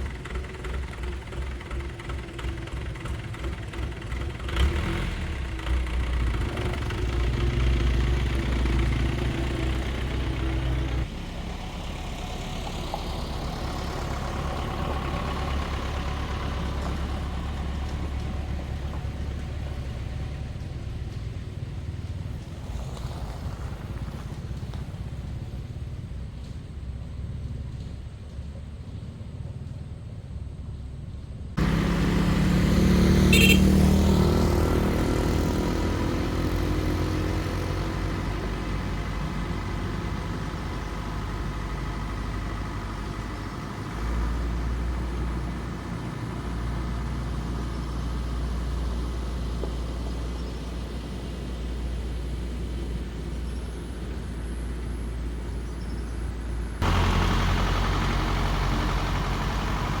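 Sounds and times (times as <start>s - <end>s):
car engine humming: 0.0s - 60.0s.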